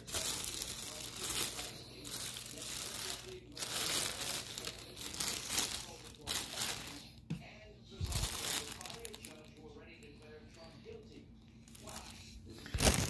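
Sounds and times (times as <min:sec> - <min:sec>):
plastic bags crinkling: 0:00.0 - 0:07.3, 0:07.9 - 0:11.0, 0:11.6 - 0:13.0.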